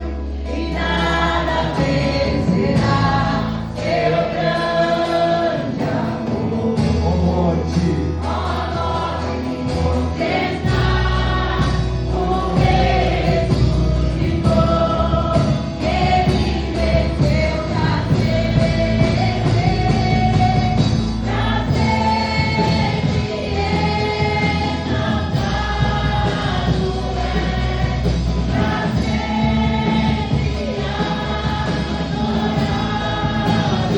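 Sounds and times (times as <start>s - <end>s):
gospel band playing: 0.0s - 33.9s
group of singers: 0.0s - 33.9s
sustained bass notes: 0.0s - 33.9s.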